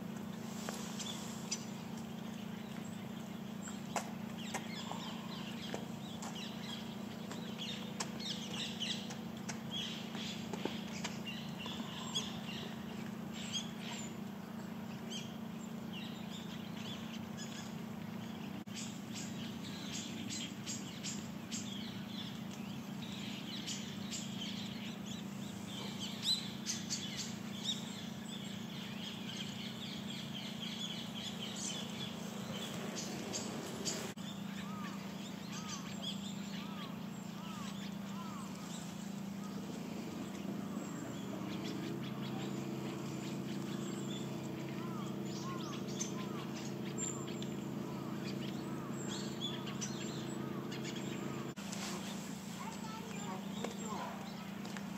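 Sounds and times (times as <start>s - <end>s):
small birds chirping: 0.0s - 54.9s
steady low hum: 0.0s - 54.9s.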